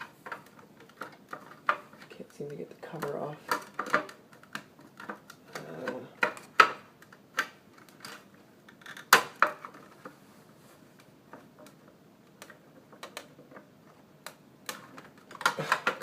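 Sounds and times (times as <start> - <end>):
clicks and knocks handling plastic cover: 0.0 - 10.2, 11.0 - 16.0.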